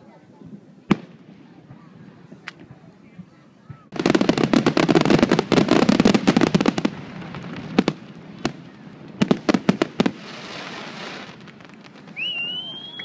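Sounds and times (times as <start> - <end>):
fireworks crackling: 0.3 - 13.0
fireworks bangs: 0.4 - 13.0.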